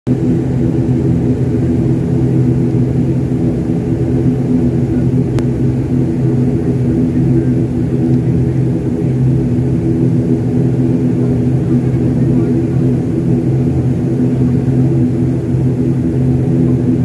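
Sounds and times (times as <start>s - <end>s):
airliner engines rumbling: 0.1s - 17.0s
multi-tone hum: 0.1s - 17.0s.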